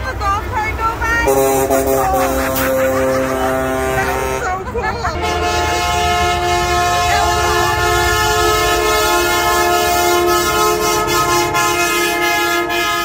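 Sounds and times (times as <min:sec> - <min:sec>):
diesel engine running: 0:00.0 - 0:13.0
truck air horn blast: 0:01.2 - 0:13.0.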